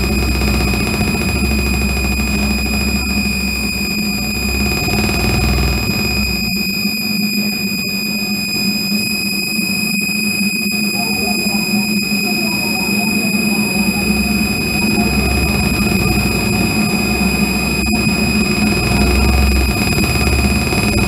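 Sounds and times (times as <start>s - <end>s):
faint warbling tones: 0.0s - 21.0s
high whining tones: 0.0s - 21.0s
hissing electronic noise: 0.0s - 21.0s
low electronic drone: 0.0s - 21.0s.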